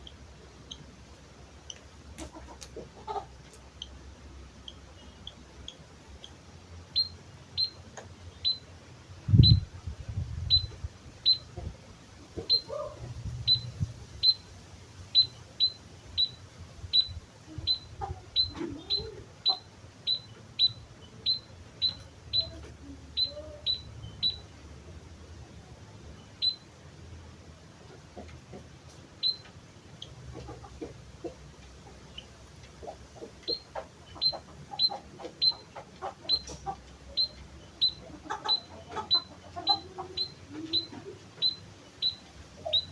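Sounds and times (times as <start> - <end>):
bird chirping: 0.0 - 42.9.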